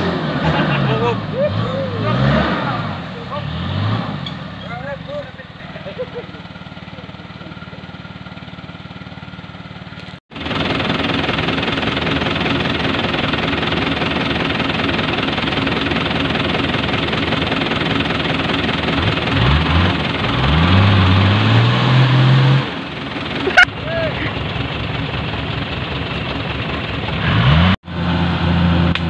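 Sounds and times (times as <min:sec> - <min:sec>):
off-road engine idling: 0:00.0 - 0:03.6, 0:04.2 - 0:21.6, 0:22.2 - 0:29.0
engine running and revving: 0:00.0 - 0:06.1, 0:08.2 - 0:24.4, 0:26.2 - 0:29.0.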